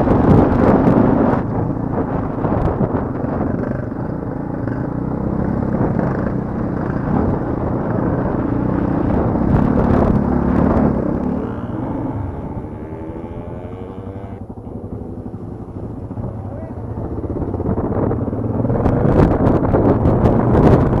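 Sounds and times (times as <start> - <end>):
off-road motorcycle engine: 0.0 - 21.0.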